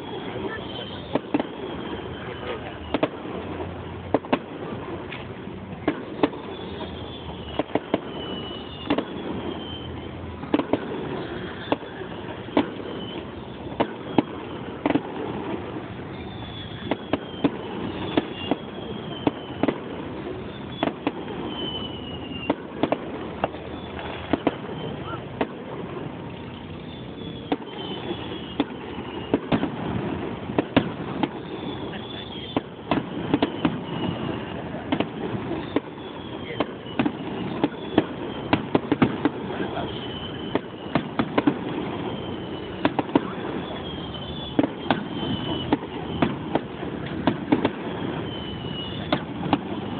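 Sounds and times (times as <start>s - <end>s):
crowd murmur: 0.0s - 49.9s
falling firework whistles: 0.0s - 49.9s
fireworks bangs: 0.0s - 49.9s.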